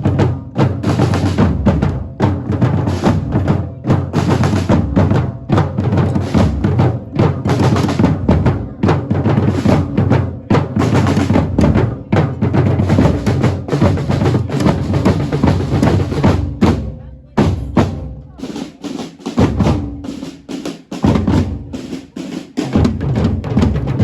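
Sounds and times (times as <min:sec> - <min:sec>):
drums beating with heavy bass drum: 0:00.0 - 0:24.0.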